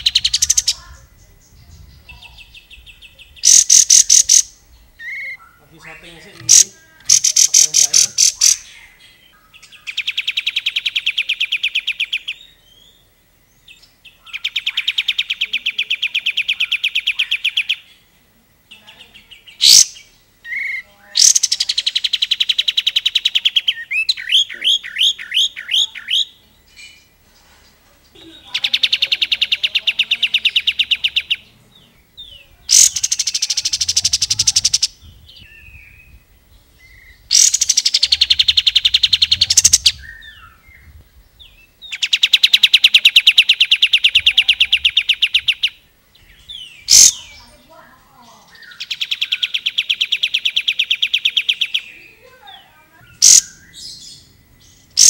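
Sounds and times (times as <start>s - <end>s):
bird trilled chatter: 0.0s - 12.9s, 13.9s - 18.1s, 18.7s - 55.0s.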